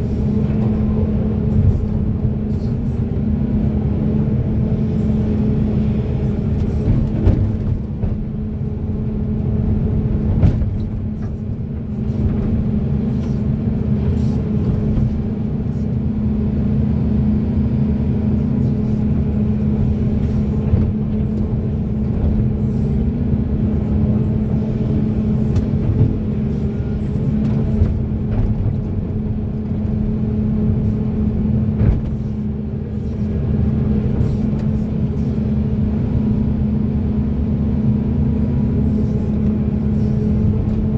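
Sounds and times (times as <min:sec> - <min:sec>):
excavator diesel engine humming: 0:00.0 - 0:40.9.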